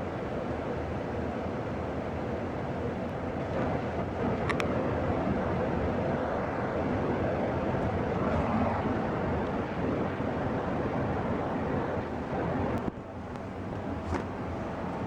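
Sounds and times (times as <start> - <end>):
furnace blower fan humming: 0.0 - 15.0.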